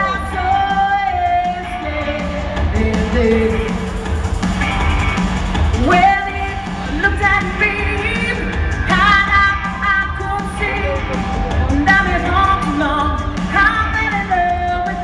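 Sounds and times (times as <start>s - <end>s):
person singing: 0.0s - 4.9s, 5.8s - 15.0s
dance-pop backing track: 0.0s - 15.0s.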